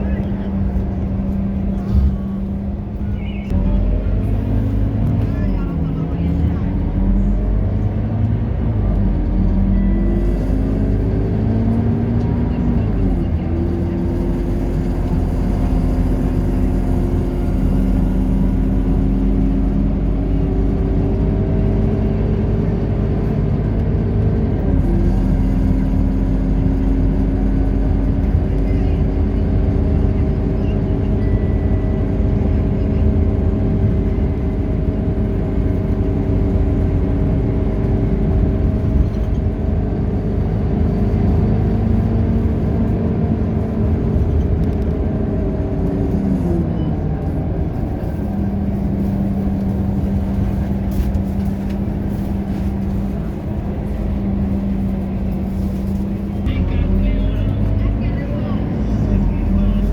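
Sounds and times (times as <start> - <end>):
bus diesel engine under load: 0.0 - 59.9.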